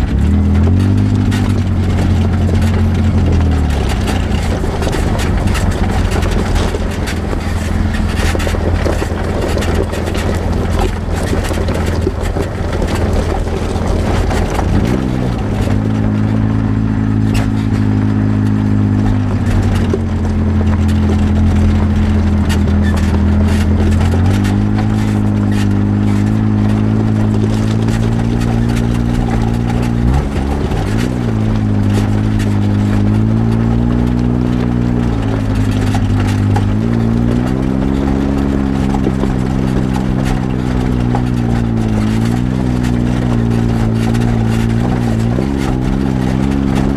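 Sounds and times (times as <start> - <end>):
knocks and rattles over rough ground: 0.0 - 46.9
utility vehicle engine revving: 0.0 - 46.9.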